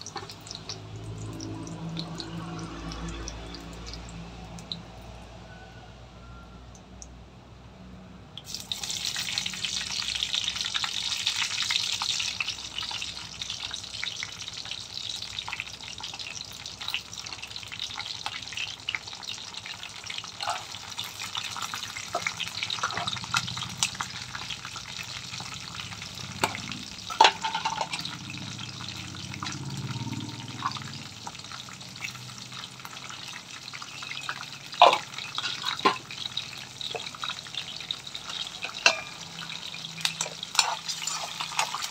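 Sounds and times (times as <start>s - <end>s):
hot oil sizzling in a pan: 0.0s - 5.6s, 8.4s - 41.9s.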